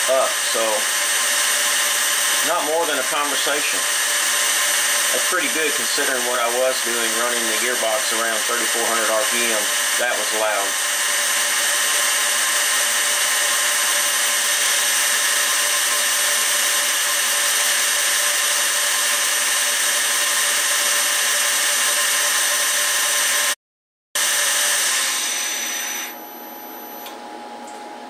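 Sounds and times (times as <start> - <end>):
mill motor whirring with high whines: 0.0 - 23.6, 24.2 - 27.8.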